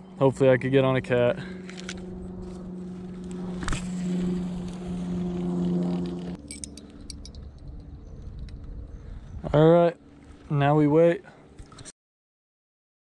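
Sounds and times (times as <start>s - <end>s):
motor hum: 0.0s - 10.6s.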